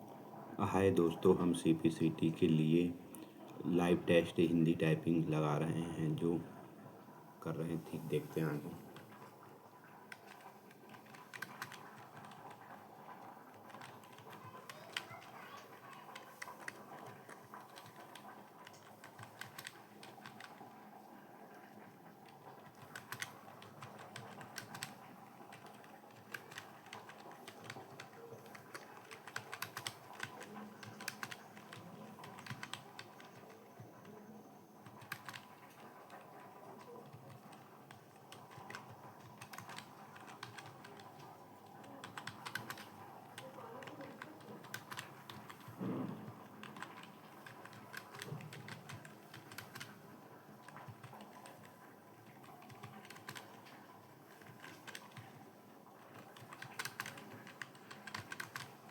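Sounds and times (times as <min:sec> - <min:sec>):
fast typing on keyboard: 0:08.4 - 0:58.9.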